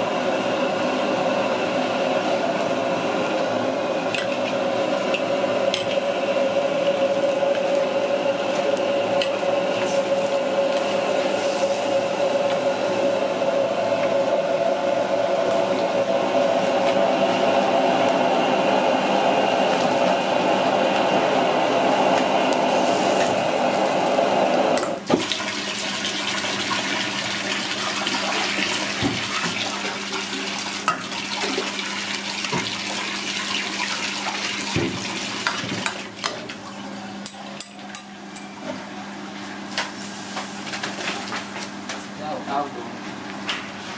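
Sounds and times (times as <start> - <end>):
water boiling in a wok: 0.0 - 38.4.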